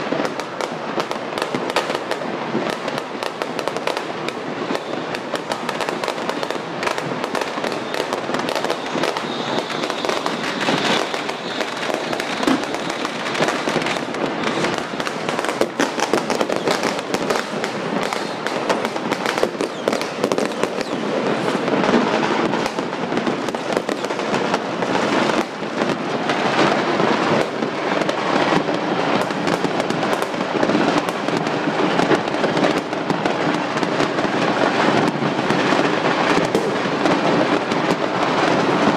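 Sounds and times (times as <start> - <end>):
firecrackers and fireworks banging: 0.0 - 38.9.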